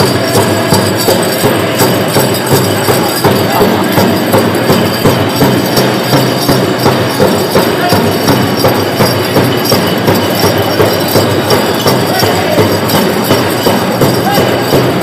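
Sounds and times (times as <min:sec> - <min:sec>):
big drum steady beat: 0:00.0 - 0:15.0.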